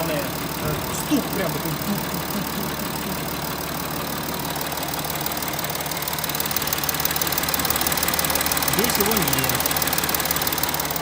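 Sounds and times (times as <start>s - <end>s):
diesel engine idling with knock: 0.0s - 11.0s.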